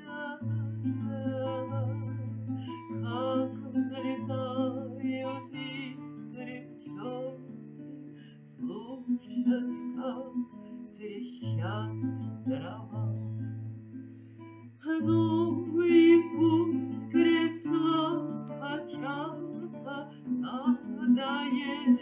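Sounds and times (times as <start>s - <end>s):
plucked string melody: 0.0s - 22.0s.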